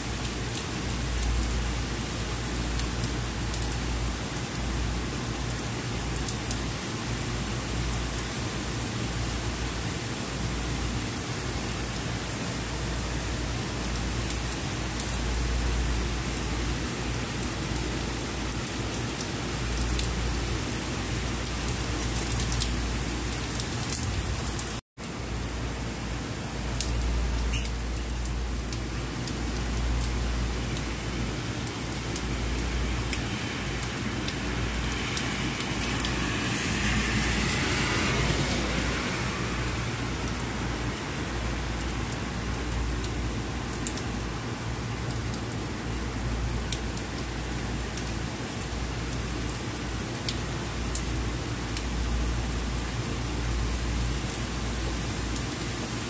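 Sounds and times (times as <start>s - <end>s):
rain falling on street: 0.0s - 56.0s.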